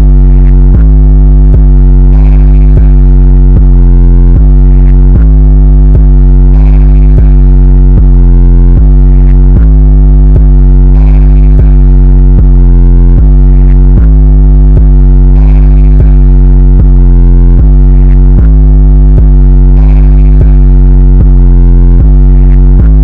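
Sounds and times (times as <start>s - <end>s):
bass-heavy electronic music: 0.0s - 23.0s.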